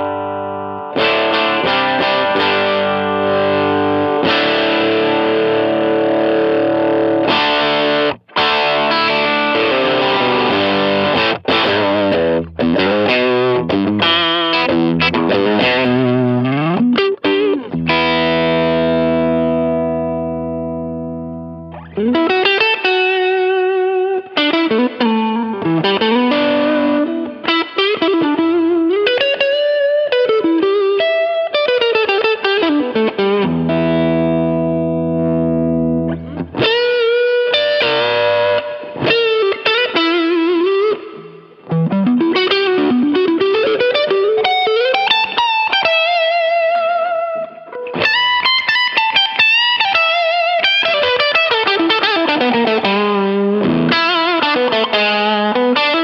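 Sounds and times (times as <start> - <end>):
overdriven electric guitar solo: 0.0 - 56.0.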